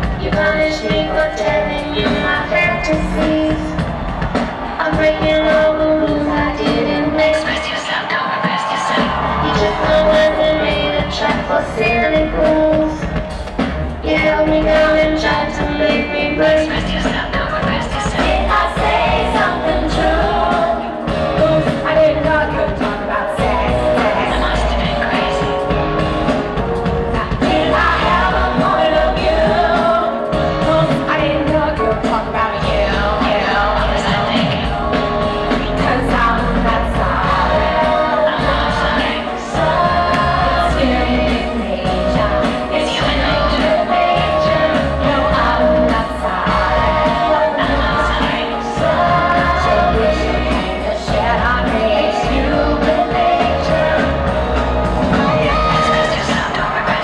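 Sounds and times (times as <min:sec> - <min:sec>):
live pop-rock band with singing: 0:00.0 - 0:57.0.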